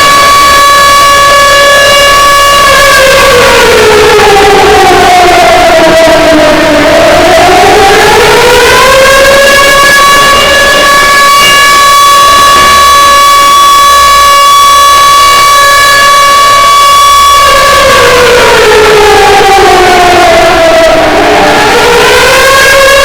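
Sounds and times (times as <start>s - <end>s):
civil defense siren: 0.0s - 23.0s.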